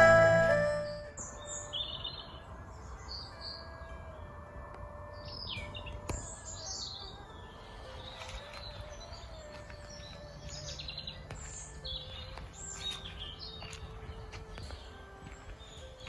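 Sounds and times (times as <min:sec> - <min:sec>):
soft background music: 0:00.0 - 0:16.0
songbirds chirping: 0:00.0 - 0:16.0.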